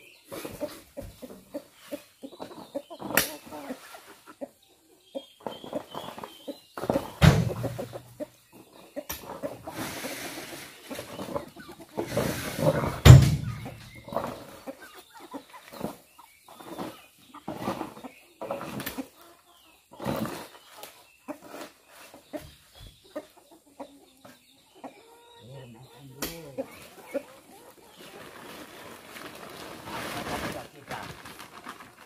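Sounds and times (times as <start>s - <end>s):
chickens clucking: 0.0s - 30.6s.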